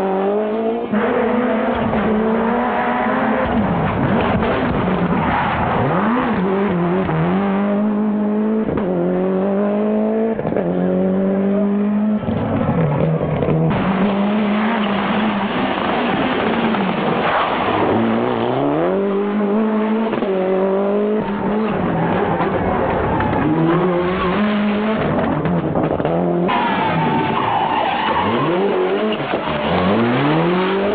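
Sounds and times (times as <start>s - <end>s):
rally car engine revving: 0.0s - 30.9s.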